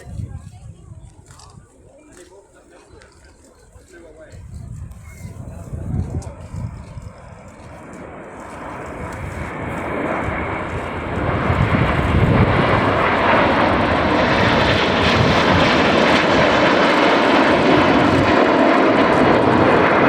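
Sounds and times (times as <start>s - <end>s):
jet engines rumbling: 3.8s - 20.0s.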